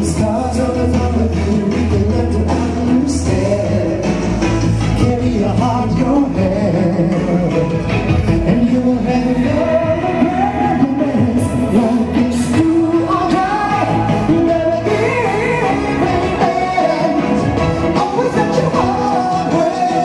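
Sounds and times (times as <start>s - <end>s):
instrumental backing music: 0.0s - 20.0s.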